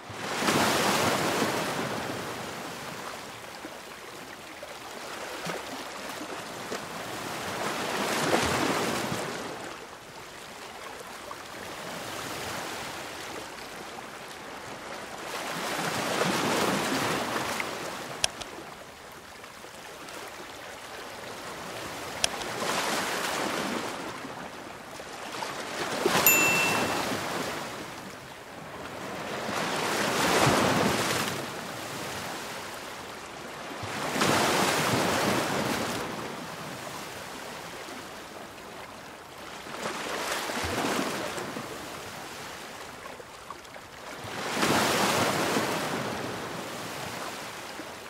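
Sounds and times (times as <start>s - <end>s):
ocean waves: 0.0s - 48.0s.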